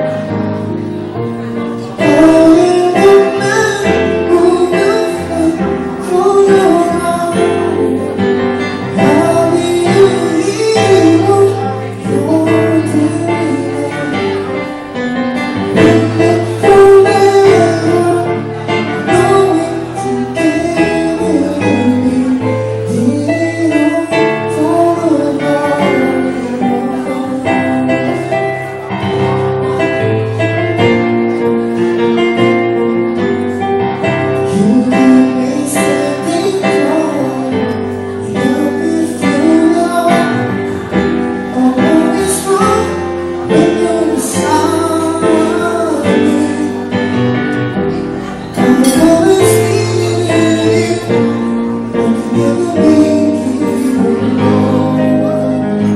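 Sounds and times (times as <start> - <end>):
acoustic instrumental accompaniment: 0.0 - 55.9
person singing: 0.0 - 55.9.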